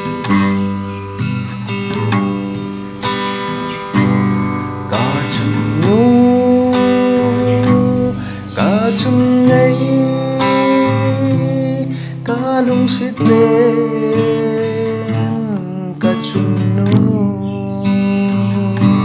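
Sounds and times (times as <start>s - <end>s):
song with acoustic guitar: 0.0s - 19.0s.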